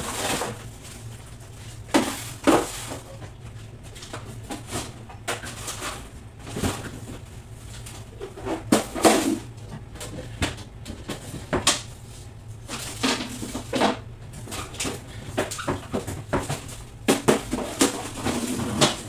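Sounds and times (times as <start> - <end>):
items knocking and clattering: 0.0 - 11.9, 12.6 - 19.0.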